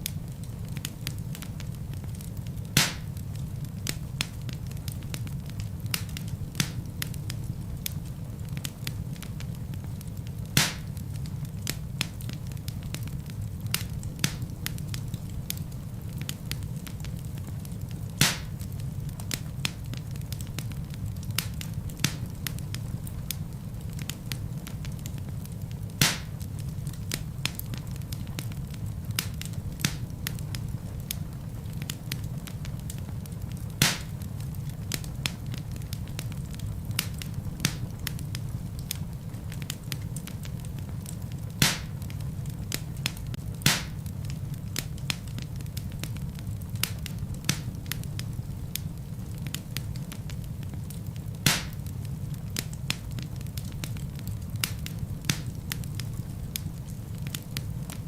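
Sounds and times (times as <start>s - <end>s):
burning logs popping: 0.0s - 58.0s
fire crackling: 0.0s - 58.0s
low rumble of flames: 0.0s - 58.0s.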